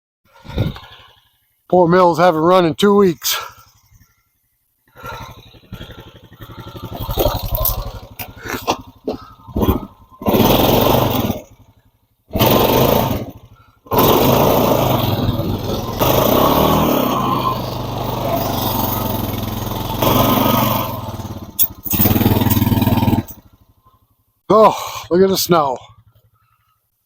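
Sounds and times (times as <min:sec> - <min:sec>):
atv engine running: 0:00.3 - 0:27.0.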